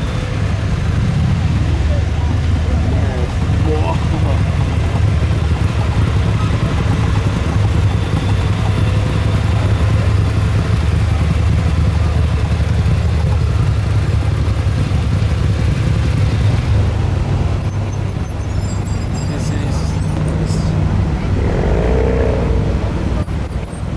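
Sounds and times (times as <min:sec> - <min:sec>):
car engine running: 0:00.0 - 0:21.4.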